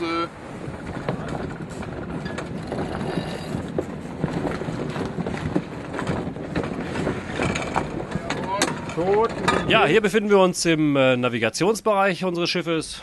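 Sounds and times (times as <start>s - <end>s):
wind buffeting microphone: 0.0s - 11.1s
wind: 0.0s - 13.0s.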